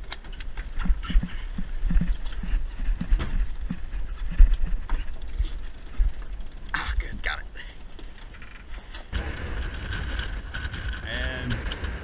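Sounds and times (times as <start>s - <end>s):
wind rumble on microphone: 0.0s - 7.2s, 8.3s - 12.0s.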